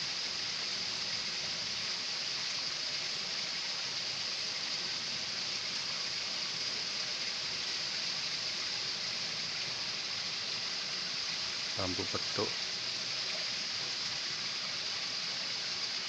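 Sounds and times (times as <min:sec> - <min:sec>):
running spring water: 0:00.0 - 0:16.0.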